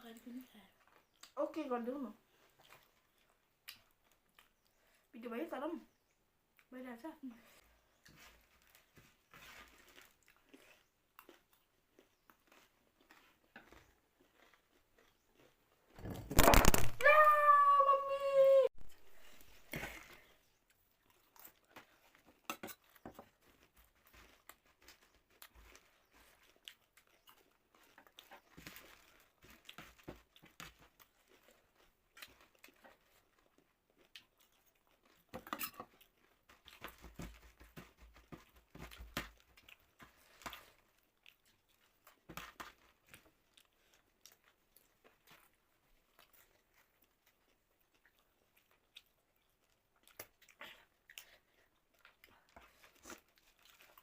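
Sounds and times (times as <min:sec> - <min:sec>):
chewing and crunching: 0:00.1 - 0:05.1, 0:07.5 - 0:16.8, 0:18.9 - 0:54.0.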